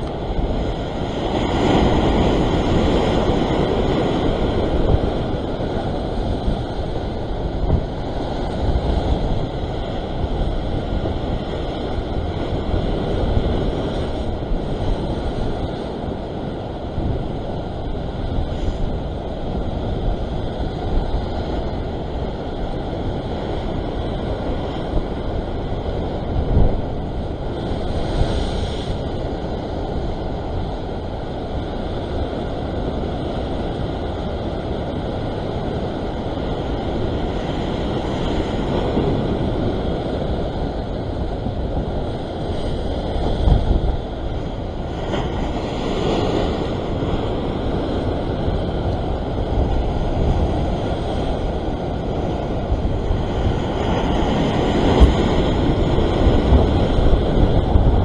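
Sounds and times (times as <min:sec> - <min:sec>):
surf breaking over rocks: 0:00.0 - 0:58.0
wind buffeting microphone: 0:00.0 - 0:58.0.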